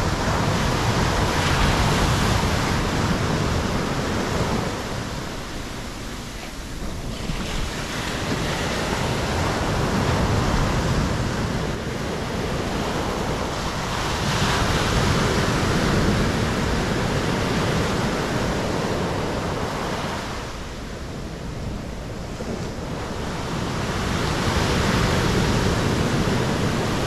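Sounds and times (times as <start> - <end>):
surf washing onto shore: 0.0 - 27.0.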